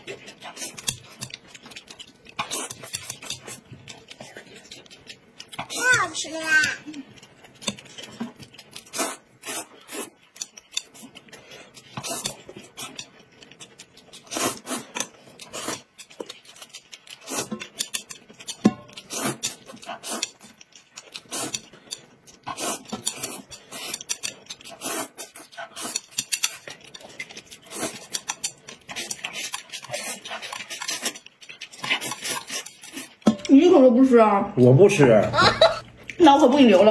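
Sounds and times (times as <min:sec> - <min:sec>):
noodles slurped: 0:00.0 - 0:33.2
chewing: 0:00.0 - 0:33.3, 0:35.8 - 0:36.9.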